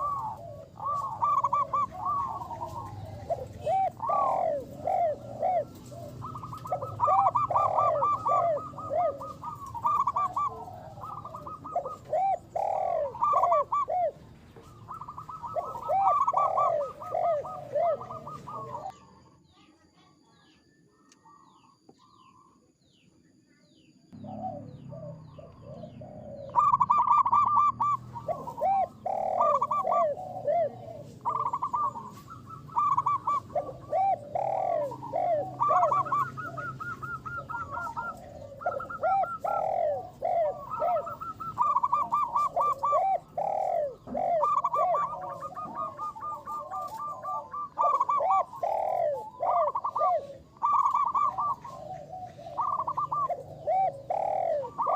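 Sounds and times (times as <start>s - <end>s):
doves cooing: 0.0s - 19.5s, 24.1s - 54.9s.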